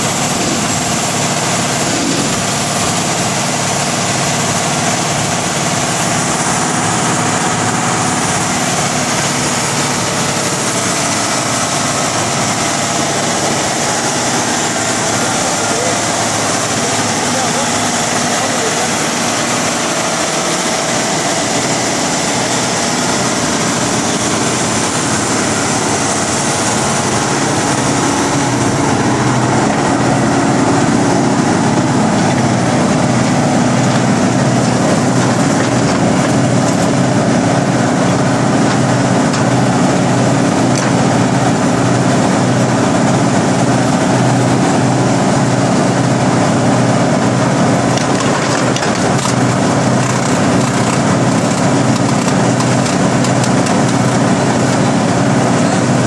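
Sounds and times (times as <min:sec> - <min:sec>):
wood chipper engine droning: 0:00.0 - 0:56.0.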